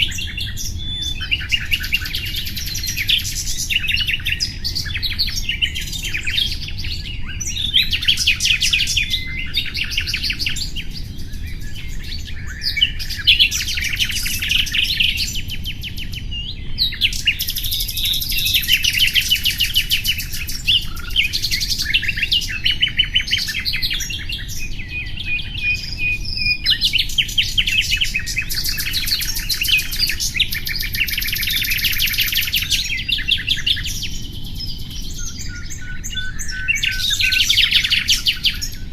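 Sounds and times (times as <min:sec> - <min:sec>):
nightingale singing: 0:00.0 - 0:38.9.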